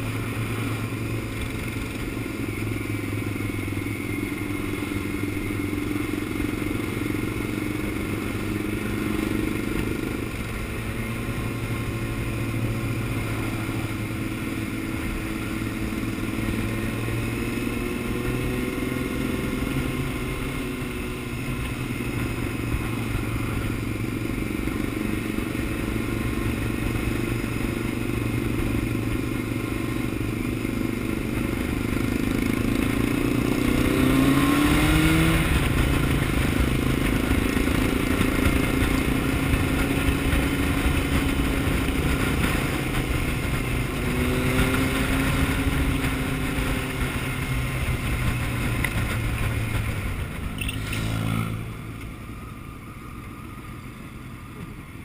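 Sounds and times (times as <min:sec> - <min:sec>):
motorcycle engine cruising: 0:00.0 - 0:55.0
road noise: 0:00.0 - 0:55.0.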